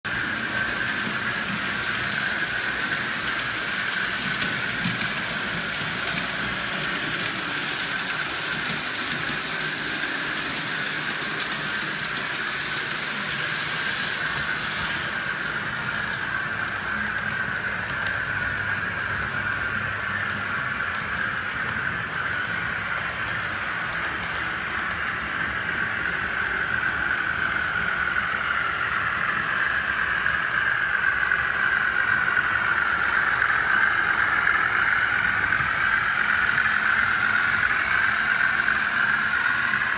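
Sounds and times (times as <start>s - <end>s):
model train wheels clattering: 0.1s - 39.9s.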